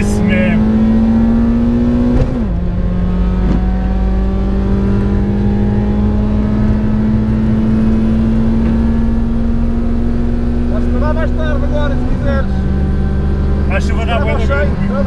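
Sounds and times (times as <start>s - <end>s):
car engine revving: 0.0s - 15.0s
road and tyre noise: 0.0s - 15.0s.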